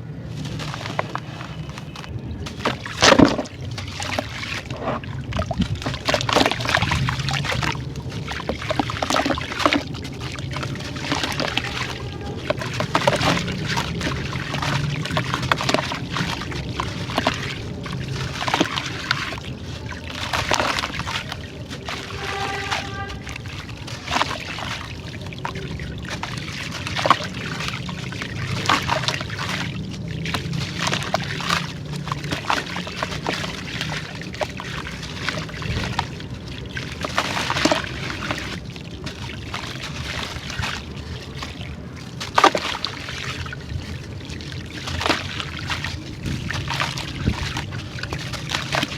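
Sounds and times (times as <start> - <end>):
low steady hum: 0.0 - 48.9
water sloshing and dribbling: 0.0 - 48.9.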